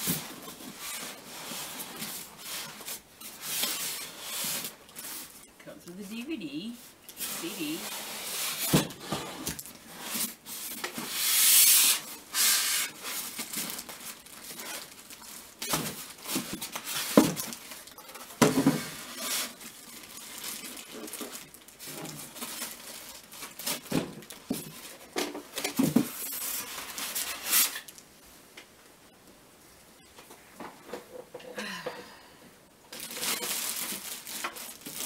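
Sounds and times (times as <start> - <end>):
plastic bag rustling: 0.0 - 28.0, 32.9 - 35.0.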